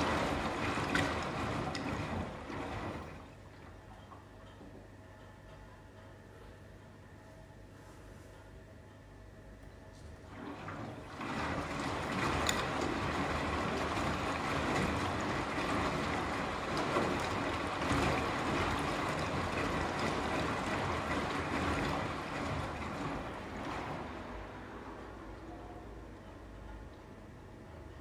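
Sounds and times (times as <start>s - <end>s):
water and laundry sloshing: 0.0s - 5.0s, 10.1s - 28.0s
washing machine drum tumbling: 0.0s - 5.6s, 10.2s - 28.0s.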